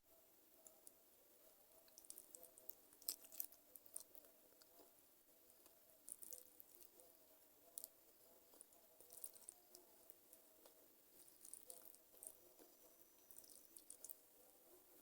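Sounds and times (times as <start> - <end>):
chewing with wet crackles: 0.6 - 14.9.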